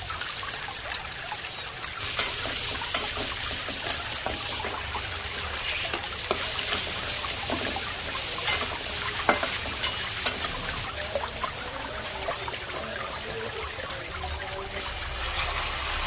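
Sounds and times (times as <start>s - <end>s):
cooking hiss: 0.0s - 16.0s.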